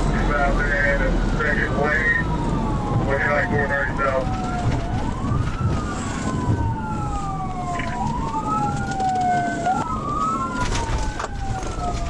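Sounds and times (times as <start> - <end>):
car engine and tyres rumbling: 0.0 - 12.0
police siren wailing: 0.0 - 12.0.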